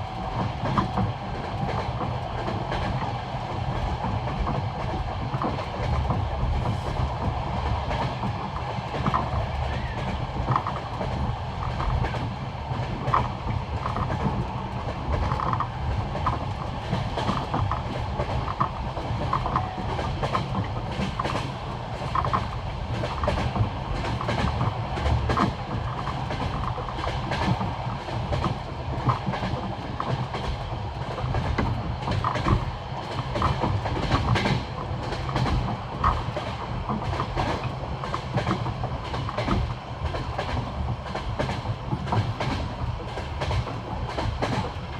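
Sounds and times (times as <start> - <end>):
train wheels clacking on rail joints: 0.0 - 44.9.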